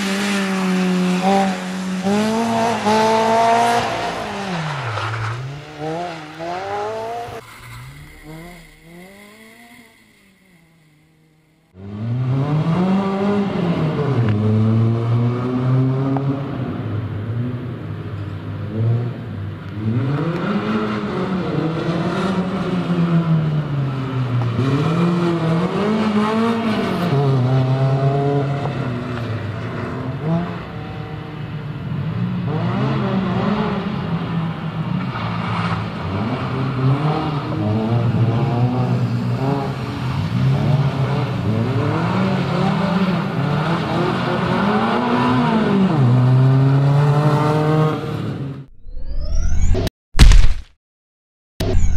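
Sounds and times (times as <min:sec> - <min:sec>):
rally car engine revving: 0:00.0 - 0:11.2, 0:11.8 - 0:16.8, 0:18.7 - 0:48.7.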